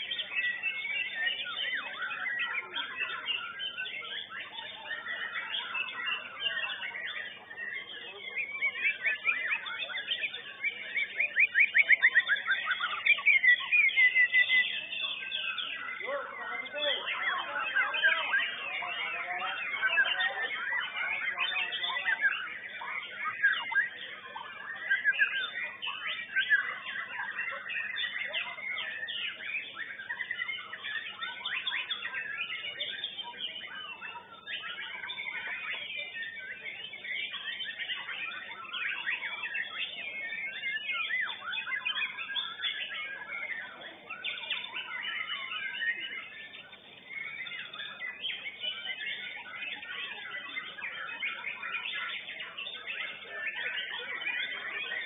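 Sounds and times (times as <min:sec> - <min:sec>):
birds singing whistles and trills: 0:00.0 - 0:55.0.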